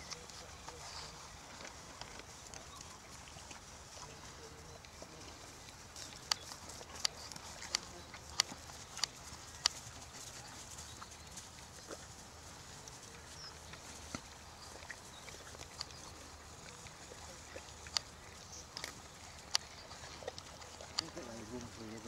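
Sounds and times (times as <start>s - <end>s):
faint outdoor background: 0.0s - 22.0s
horse hooves clicking and knocking: 0.0s - 22.0s.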